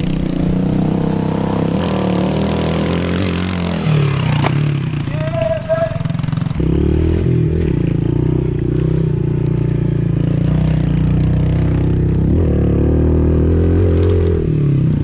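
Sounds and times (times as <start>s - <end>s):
pit bike engine under throttle: 0.0s - 15.0s.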